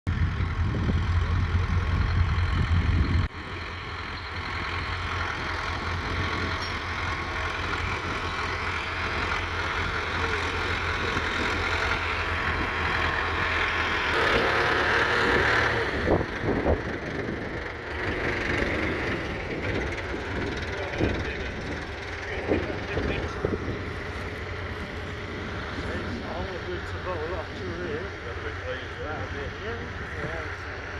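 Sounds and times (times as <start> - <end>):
tractor engine running: 0.1 - 30.9.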